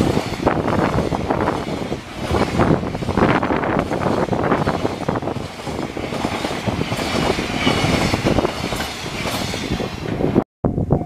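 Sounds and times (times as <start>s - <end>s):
train wheels clattering on rails: 0.0s - 10.4s.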